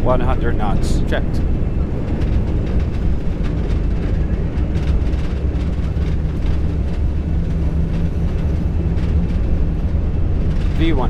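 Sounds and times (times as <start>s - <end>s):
jet engines and wheels rumbling: 0.0s - 11.0s.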